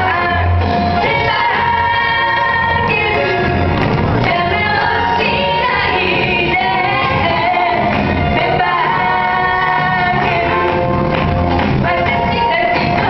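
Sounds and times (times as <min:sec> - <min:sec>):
group singing along loudly: 0:00.0 - 0:11.1, 0:11.7 - 0:13.0
pop song playing: 0:00.0 - 0:13.0.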